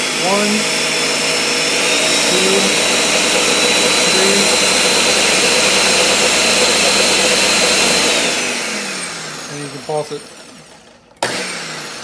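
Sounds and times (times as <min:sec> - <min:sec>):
blender running: 0:00.0 - 0:12.0.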